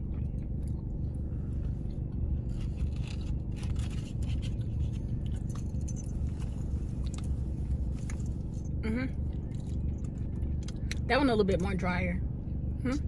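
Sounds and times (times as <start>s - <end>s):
person chewing a doughnut: 0.0s - 11.1s
steady low hum: 0.0s - 13.0s.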